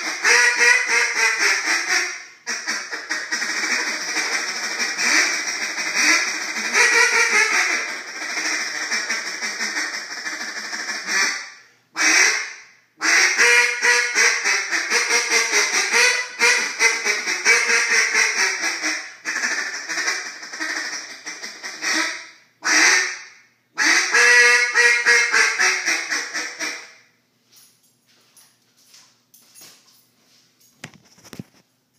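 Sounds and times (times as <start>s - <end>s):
duck call quacks: 0.0s - 27.0s.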